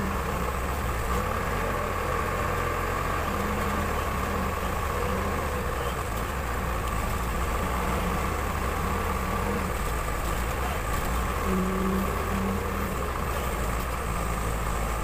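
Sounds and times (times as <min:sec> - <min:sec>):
backhoe diesel engine running: 0:00.0 - 0:15.0.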